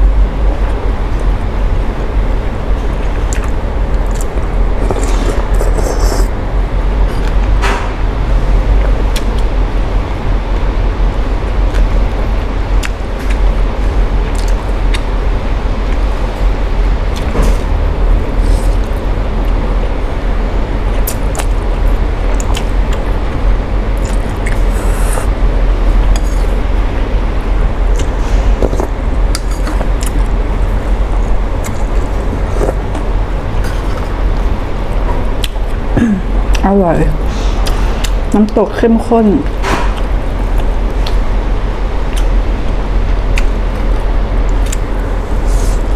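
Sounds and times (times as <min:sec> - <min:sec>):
heavy low rumble: 0:00.0 - 0:45.9.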